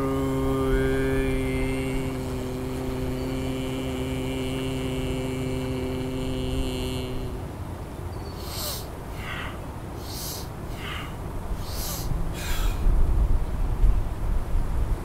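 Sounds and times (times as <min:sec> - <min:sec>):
man's long steady exhaled vocal tone: 0:00.0 - 0:07.6, 0:08.3 - 0:13.0.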